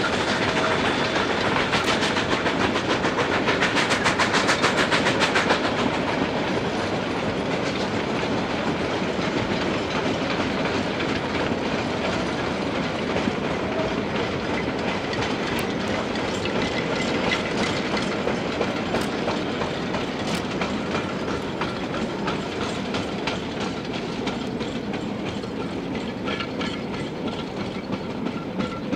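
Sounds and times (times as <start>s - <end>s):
wheels clicking over rail joints: 0.0s - 28.9s.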